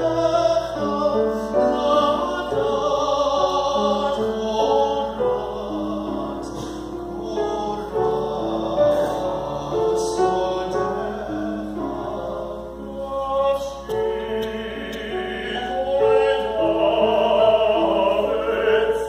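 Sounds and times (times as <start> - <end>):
music with singing: 0.0 - 19.0.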